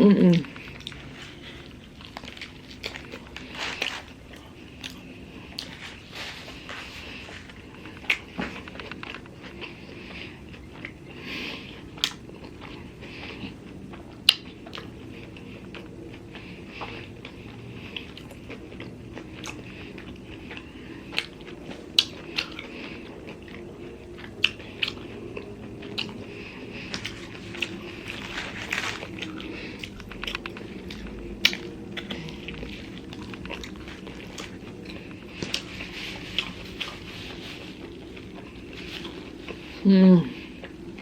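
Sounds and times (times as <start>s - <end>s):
person biting and chewing sandwich: 0.2s - 39.8s.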